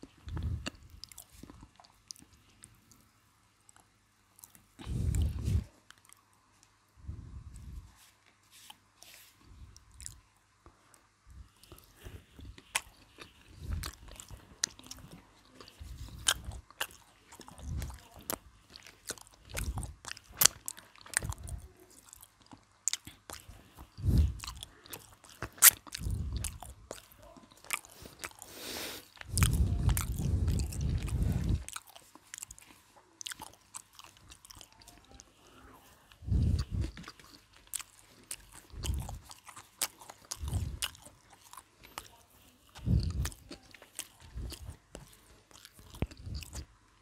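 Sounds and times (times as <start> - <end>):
chewing fried chicken: 0.0 - 47.0.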